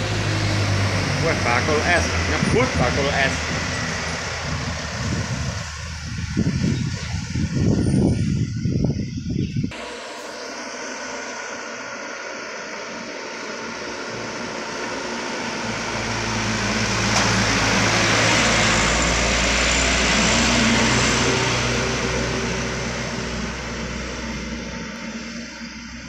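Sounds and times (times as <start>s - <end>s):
truck driving past: 0.0s - 8.1s, 9.7s - 26.0s.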